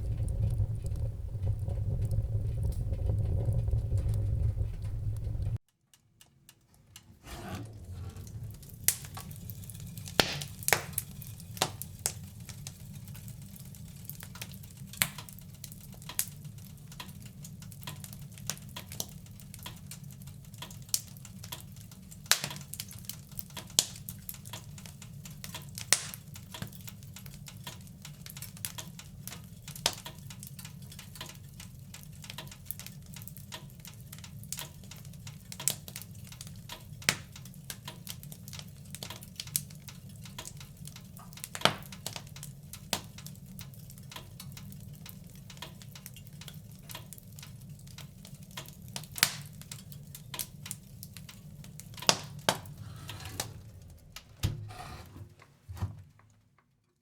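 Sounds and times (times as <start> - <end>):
fire crackling and popping: 0.0 - 7.1, 7.7 - 54.5
fire burning in fireplace: 0.0 - 55.1.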